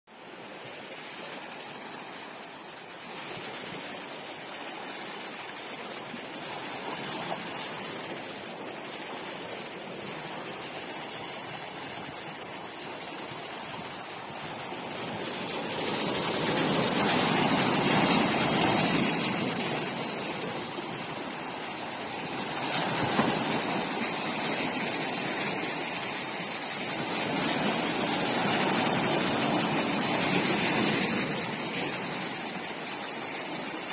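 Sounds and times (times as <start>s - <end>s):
waves breaking on beach: 0.1s - 33.9s.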